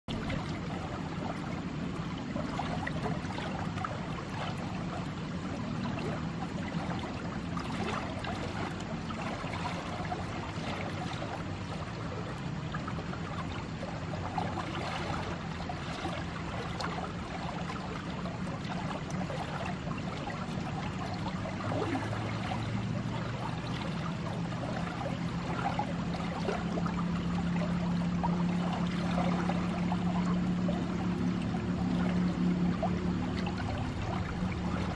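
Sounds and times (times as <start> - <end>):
low steady hum: 0.0 - 34.9
water rushing through a channel: 0.1 - 34.9.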